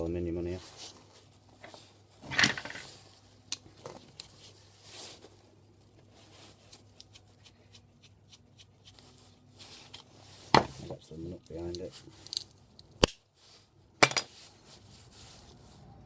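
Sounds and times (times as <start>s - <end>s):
soft rustle: 0.4s - 12.7s, 13.3s - 16.0s.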